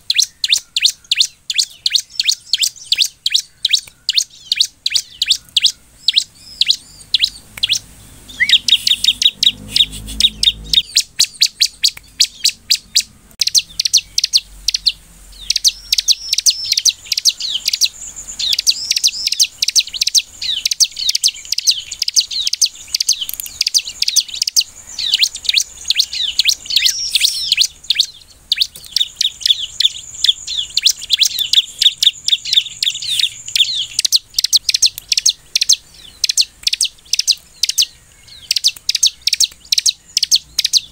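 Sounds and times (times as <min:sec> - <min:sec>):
bird singing high chirps and trills: 0:00.0 - 0:40.9.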